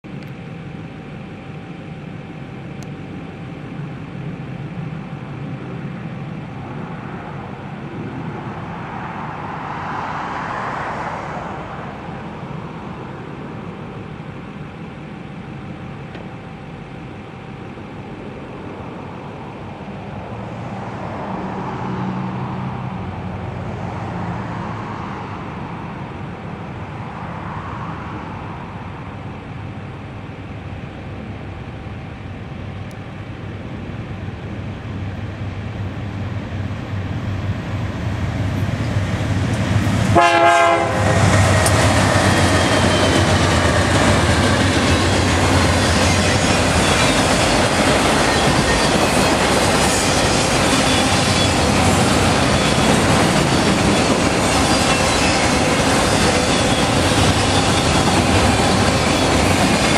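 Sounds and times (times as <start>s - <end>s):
diesel locomotive engine rumble: 0.0s - 59.9s
road traffic passing: 0.1s - 59.9s.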